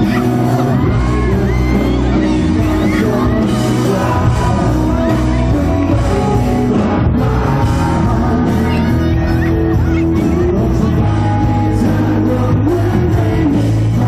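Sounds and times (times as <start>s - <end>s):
drums: 0.0s - 14.0s
electric guitar: 0.0s - 14.0s
person singing: 0.0s - 14.0s.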